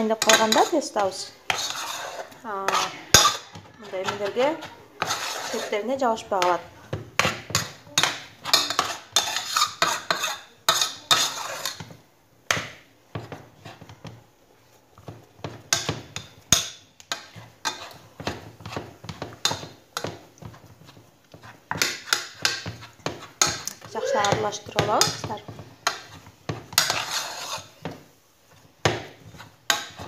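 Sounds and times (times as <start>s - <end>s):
spoon beating dough in saucepan: 0.0s - 30.0s.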